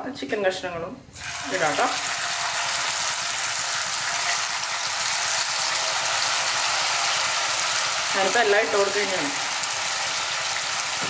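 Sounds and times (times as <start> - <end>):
chicken frying in hot oil: 1.2 - 11.0.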